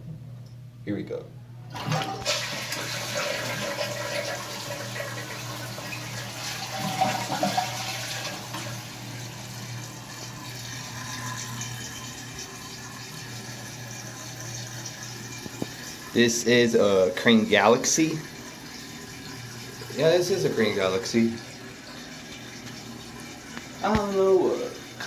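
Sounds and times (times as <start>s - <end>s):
toilet tank refilling: 1.7s - 25.0s.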